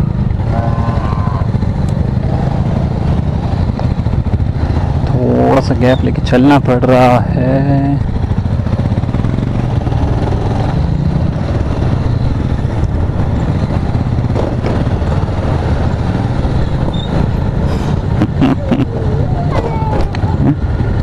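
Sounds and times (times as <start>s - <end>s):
motorcycle engine running: 0.0s - 21.0s
road noise: 0.0s - 21.0s.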